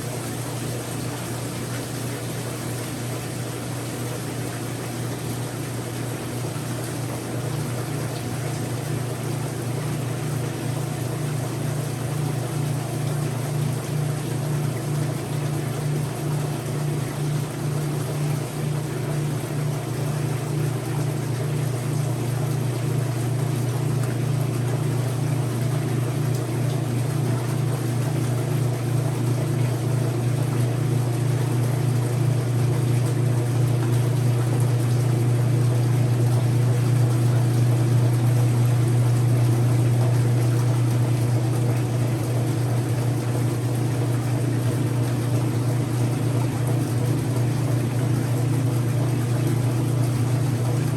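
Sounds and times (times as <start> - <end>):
washing machine motor hum: 0.0 - 50.9.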